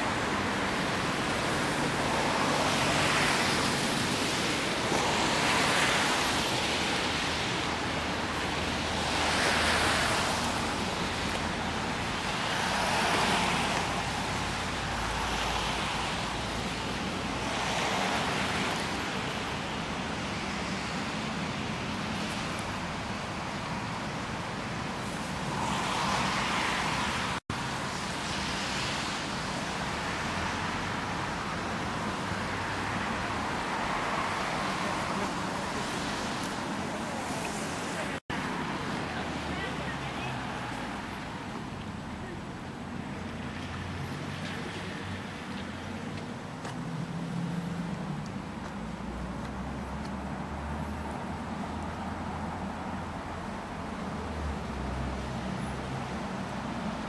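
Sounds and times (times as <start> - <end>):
tyres hissing on wet road: 0.0 - 57.0.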